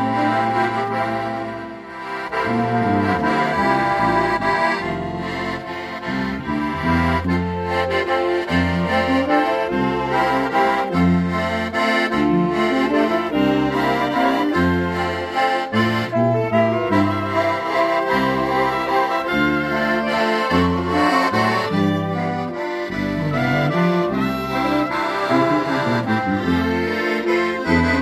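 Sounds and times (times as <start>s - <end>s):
ensemble playing a slow hymn: 0.0s - 28.0s
tuba bass line: 0.0s - 28.0s.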